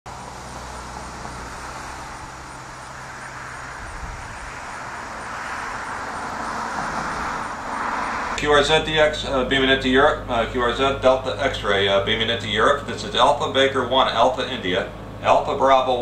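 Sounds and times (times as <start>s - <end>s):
radio static hiss: 0.2s - 16.0s.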